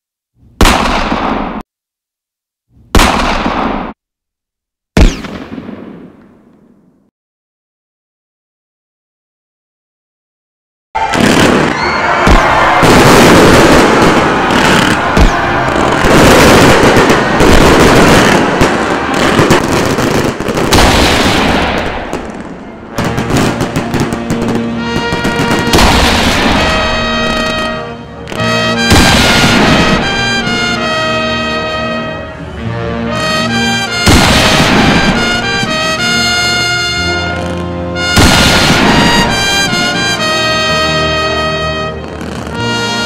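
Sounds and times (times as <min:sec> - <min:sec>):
fireworks bangs with echo: 0:00.6 - 0:01.6, 0:02.9 - 0:04.0, 0:05.0 - 0:07.0, 0:11.0 - 0:32.1, 0:33.2 - 0:43.0.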